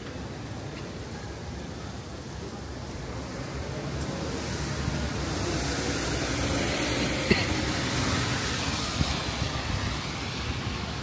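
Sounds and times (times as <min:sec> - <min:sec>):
rainy city street ambience: 0:00.0 - 0:11.0.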